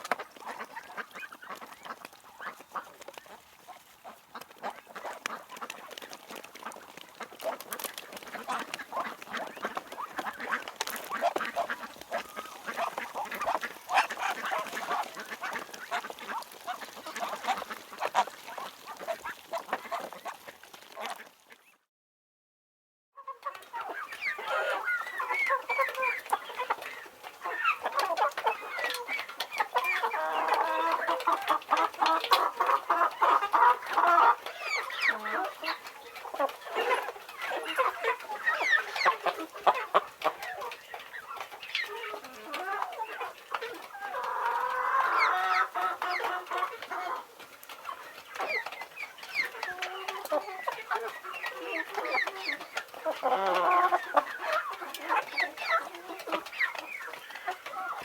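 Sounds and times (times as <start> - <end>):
chickens clucking: 0.0 - 21.7, 23.2 - 58.0.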